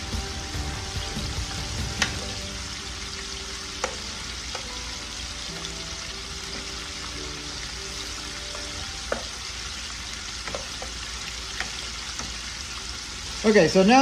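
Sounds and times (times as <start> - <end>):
chicken deep-frying in oil: 0.0 - 14.0.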